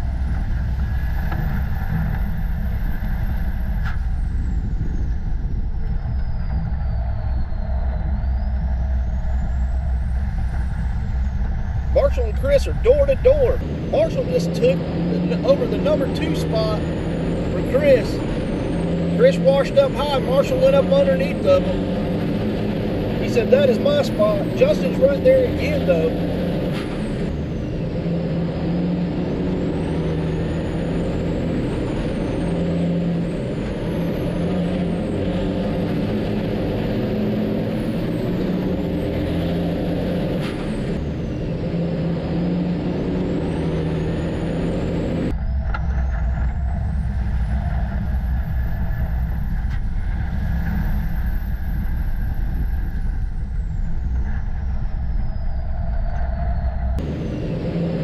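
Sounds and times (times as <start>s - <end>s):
racing truck diesel engines: 0.0s - 58.0s.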